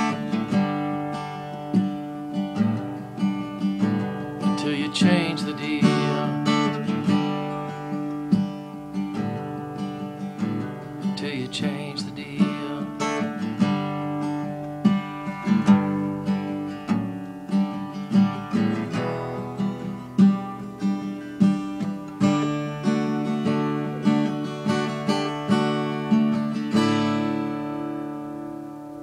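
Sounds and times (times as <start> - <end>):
acoustic guitar chords: 0.0 - 29.0.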